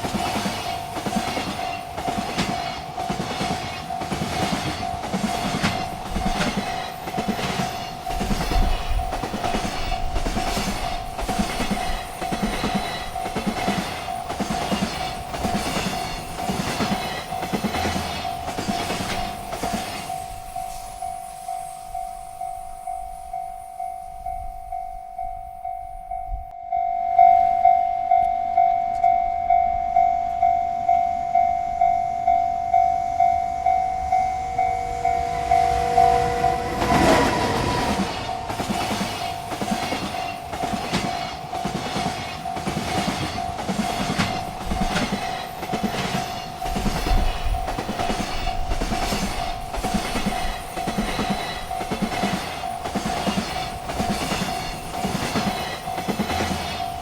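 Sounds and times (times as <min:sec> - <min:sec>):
train wheels clickety-clack: 0:00.0 - 0:24.0, 0:33.7 - 0:57.0
railroad crossing bell ringing: 0:00.0 - 0:57.0.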